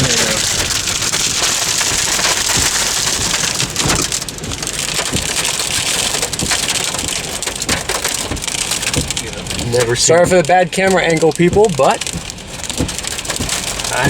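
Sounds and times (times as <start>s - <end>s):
rain and hail pounding on car: 0.0s - 14.0s
wind: 0.0s - 14.0s.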